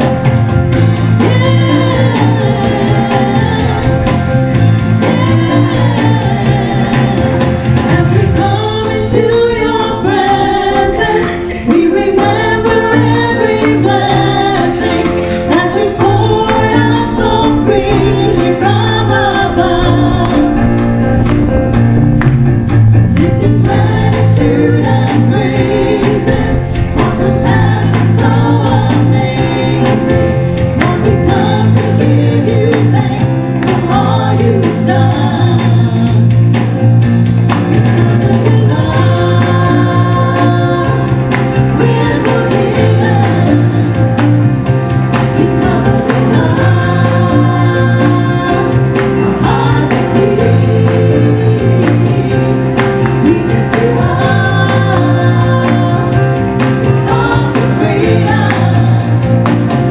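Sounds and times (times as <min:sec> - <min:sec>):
electronic keyboard: 0:00.0 - 0:59.9
women singing gospel: 0:00.8 - 0:21.0, 0:23.1 - 0:36.3, 0:37.9 - 0:59.9.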